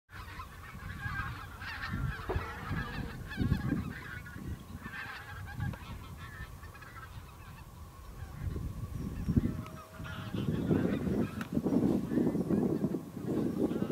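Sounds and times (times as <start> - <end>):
geese honking in distance: 0.1 - 13.9.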